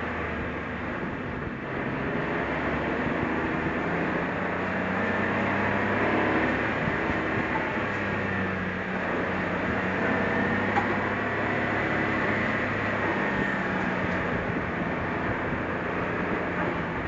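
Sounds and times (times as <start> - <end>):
car engine running: 0.0 - 17.0
tyre and road noise: 0.0 - 17.0.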